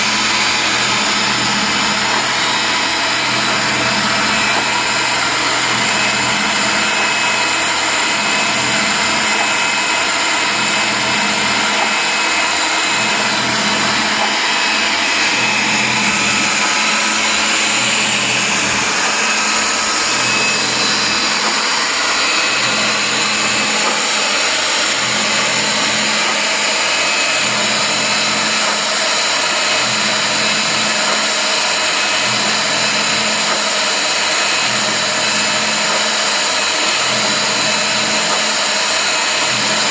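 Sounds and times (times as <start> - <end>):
pipe threader running: 0.0 - 39.9.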